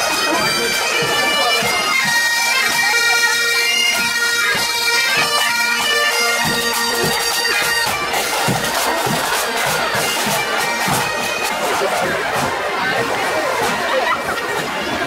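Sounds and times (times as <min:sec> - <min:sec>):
bagpipe drones: 0:00.0 - 0:15.0
bagpipes playing a tune: 0:00.0 - 0:15.0
crowd noise: 0:00.0 - 0:15.0.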